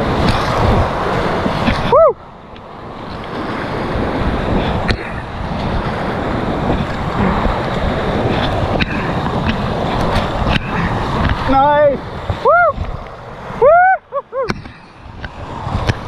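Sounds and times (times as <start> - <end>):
rapids rushing and splashing: 0.0 - 16.0
wind buffeting microphone: 0.0 - 16.0.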